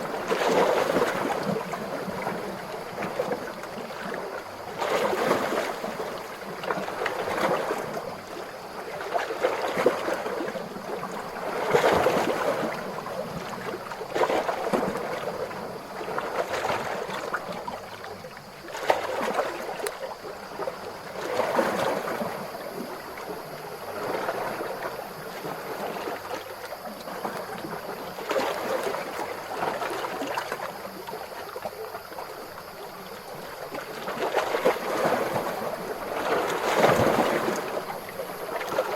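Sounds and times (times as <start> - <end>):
small ocean waves washing ashore: 0.0 - 38.9.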